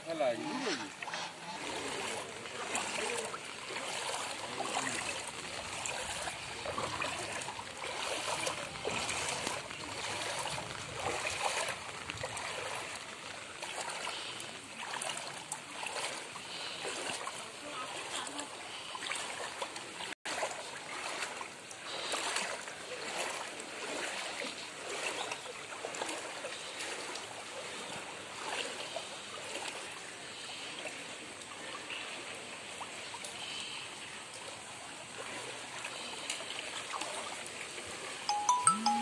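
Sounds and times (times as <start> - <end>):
person wading through floodwater: 0.0 - 39.0.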